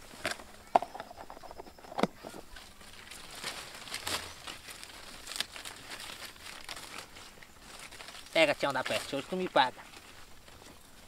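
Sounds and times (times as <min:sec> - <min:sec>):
rustling and crinkling in bushes: 0:00.0 - 0:11.0
small crackles: 0:00.0 - 0:11.0.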